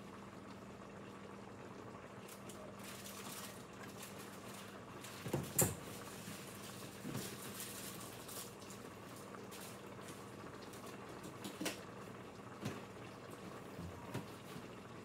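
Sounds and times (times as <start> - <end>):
pot bubbling on a stove: 0.0 - 15.0.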